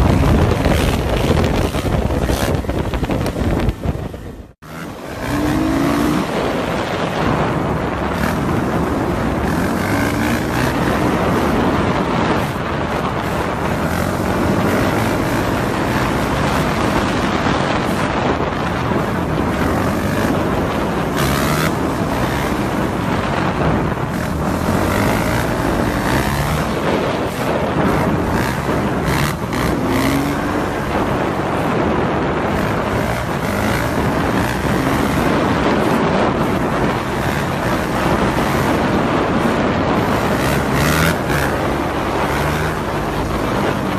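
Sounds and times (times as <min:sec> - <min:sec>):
dirt bike engine running: 0:00.0 - 0:43.9
wind rushing over microphone: 0:00.0 - 0:43.9.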